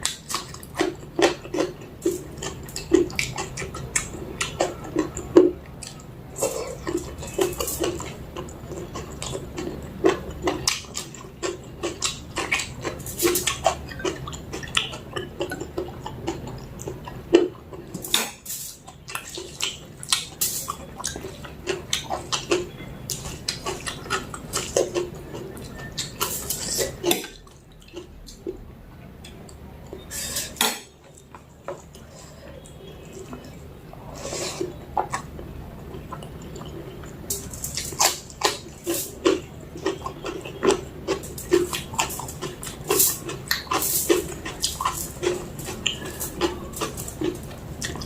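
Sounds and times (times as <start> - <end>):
chewing: 0.0 - 48.0.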